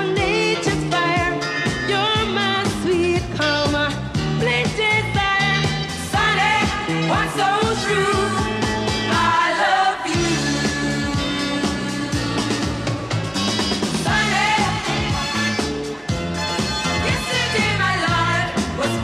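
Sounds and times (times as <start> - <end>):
disco song with singing: 0.0 - 19.0.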